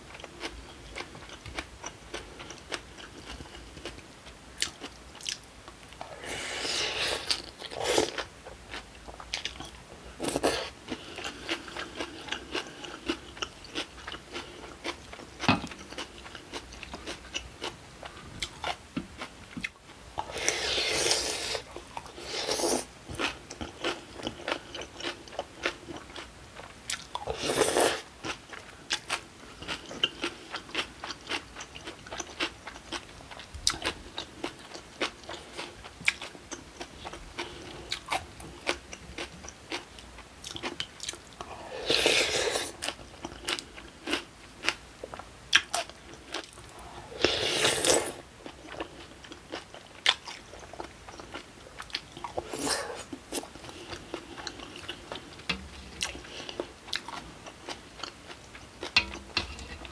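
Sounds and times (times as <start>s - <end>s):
crunching and chewing: 0.1s - 59.9s
louder noisy eating sounds: 0.1s - 59.9s.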